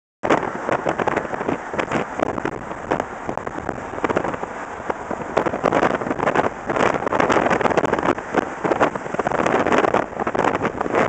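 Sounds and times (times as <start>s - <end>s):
road and traffic noise: 0.2s - 11.0s
wind buffeting on microphone: 0.2s - 11.0s.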